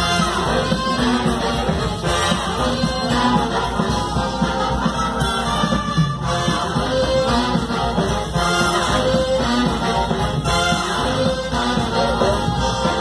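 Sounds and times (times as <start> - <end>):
big band playing: 0.0 - 13.0.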